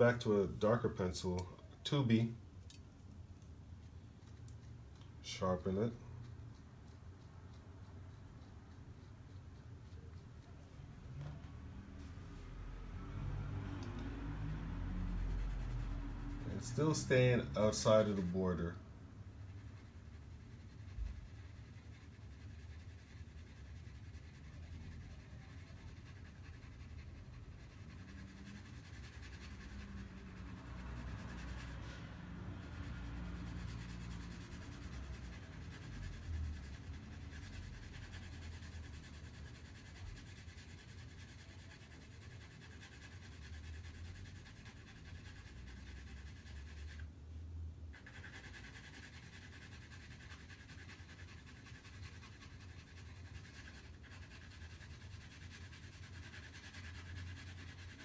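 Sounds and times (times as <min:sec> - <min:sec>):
pencil scratching on paper: 0:04.3 - 0:13.4, 0:14.0 - 0:47.1, 0:48.0 - 0:58.0.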